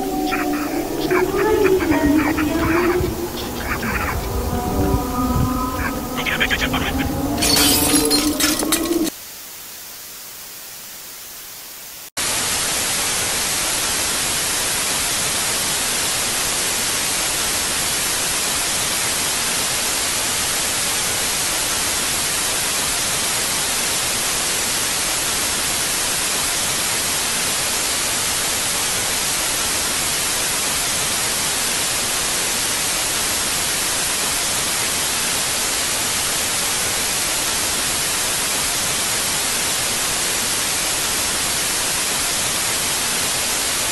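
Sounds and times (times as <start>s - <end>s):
static hiss: 0.0s - 4.7s, 9.1s - 43.9s.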